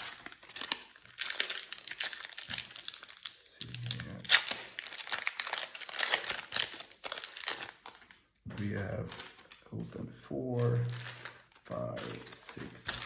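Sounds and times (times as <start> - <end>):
foil wrapper crinkling: 0.0 - 9.8, 10.6 - 13.0.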